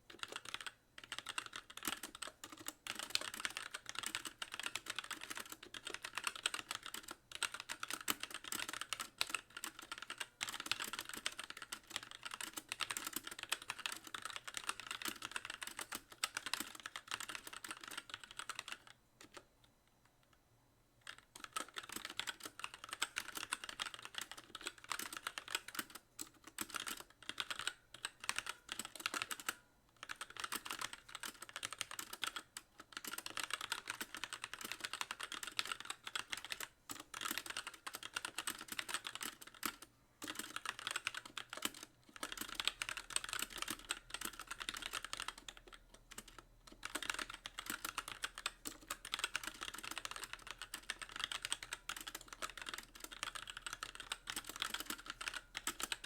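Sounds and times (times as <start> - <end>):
mechanical keyboard typing: 0.1 - 19.5, 21.0 - 56.0.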